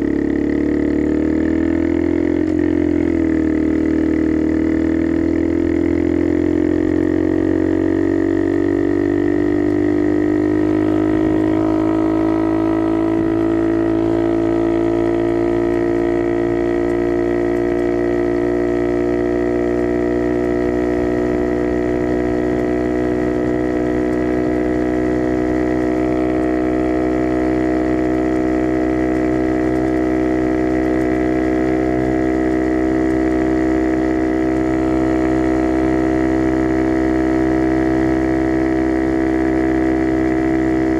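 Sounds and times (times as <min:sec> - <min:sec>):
minibike engine droning: 0:00.0 - 0:40.9.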